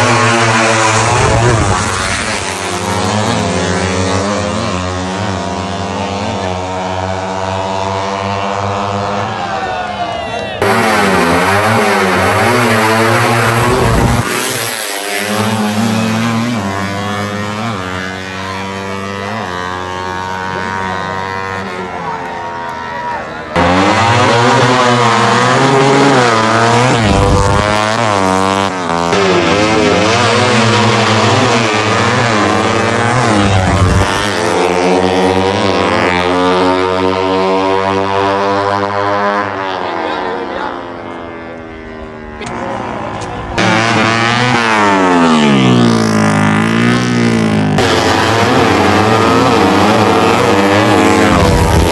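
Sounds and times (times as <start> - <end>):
motorcycles accelerating hard: 0.0 - 51.9.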